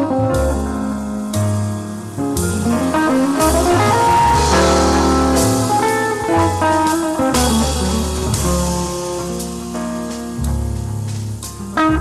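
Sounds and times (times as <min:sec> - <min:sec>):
electric guitar jazz ballad: 0:00.0 - 0:12.0.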